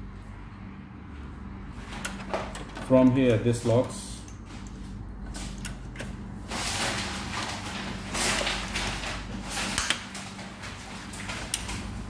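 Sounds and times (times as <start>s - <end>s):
plastic parts scraping and rattling: 1.8s - 12.0s.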